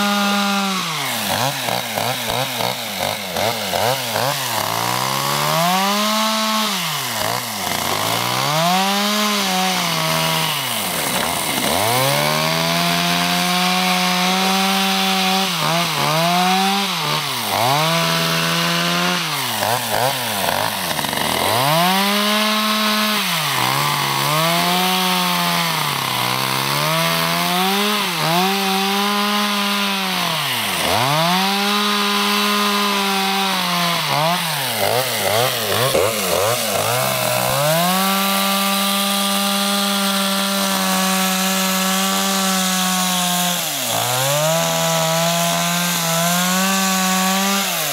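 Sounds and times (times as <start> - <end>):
chainsaw cutting through ice: 0.0 - 47.9.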